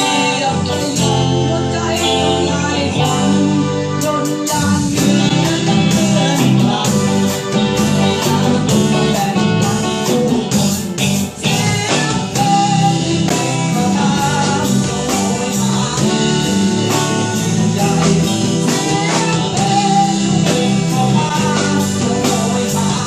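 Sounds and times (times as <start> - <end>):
band playing with guitars and drums: 0.0 - 23.0.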